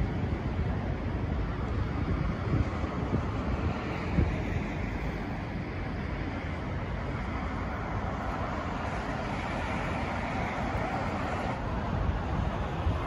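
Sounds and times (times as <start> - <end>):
road traffic passing: 0.0 - 13.0
wind rumbling on microphone: 0.0 - 13.0.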